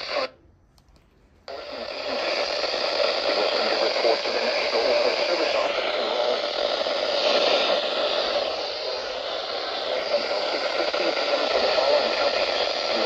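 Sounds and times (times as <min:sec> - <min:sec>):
radio static hiss: 0:00.0 - 0:00.4, 0:01.5 - 0:13.0.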